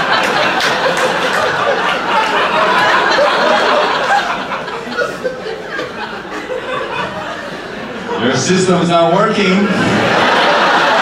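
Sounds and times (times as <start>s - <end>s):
audience laughing: 0.0s - 8.8s, 9.4s - 11.0s.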